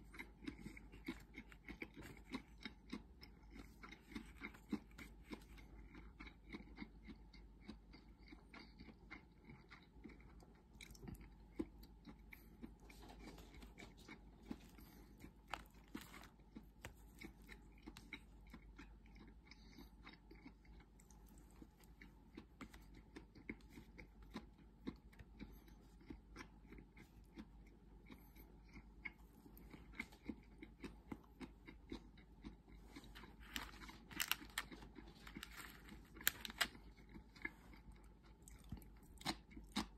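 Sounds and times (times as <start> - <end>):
faint chewing: 0.0 - 39.9.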